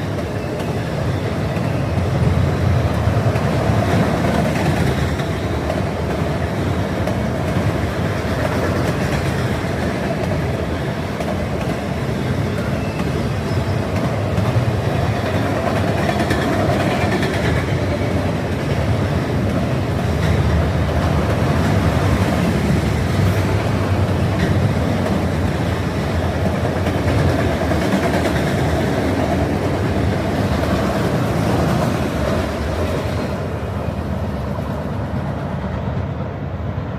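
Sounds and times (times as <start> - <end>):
freight train rolling on rails: 0.0 - 36.9.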